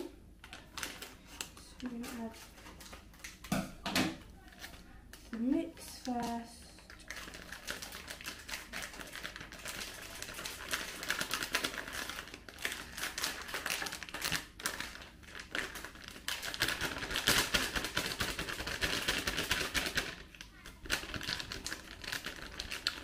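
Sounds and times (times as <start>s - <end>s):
plastic bag crinkling: 0.4s - 3.5s, 4.4s - 23.0s.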